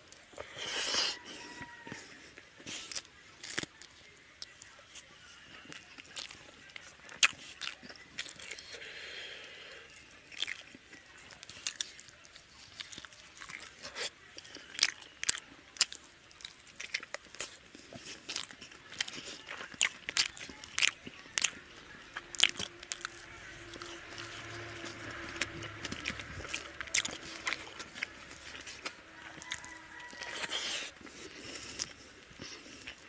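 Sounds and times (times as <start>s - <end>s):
man chewing: 0.0s - 3.8s, 5.6s - 33.0s.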